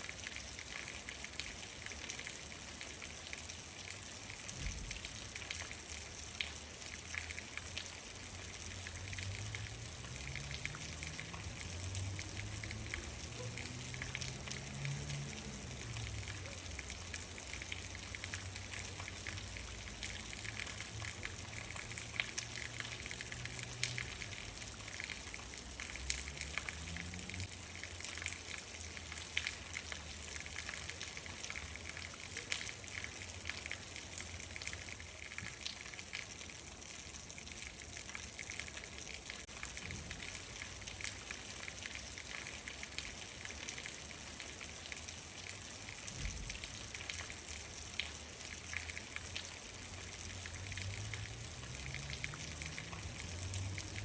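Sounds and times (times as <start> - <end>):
rain drops ticking: 0.0 - 54.0.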